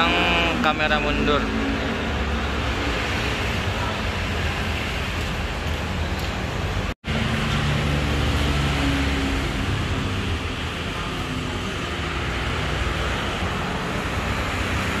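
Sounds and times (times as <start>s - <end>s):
traffic passing: 0.0s - 15.0s.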